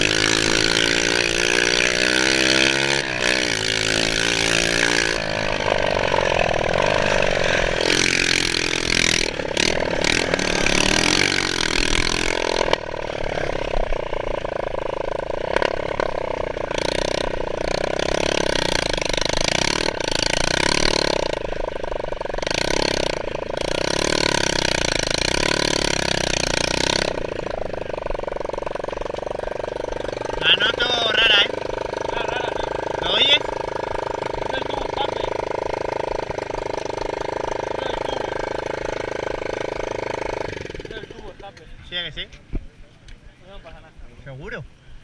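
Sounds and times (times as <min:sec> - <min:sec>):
motocross bike engine revving: 0:00.0 - 0:41.6.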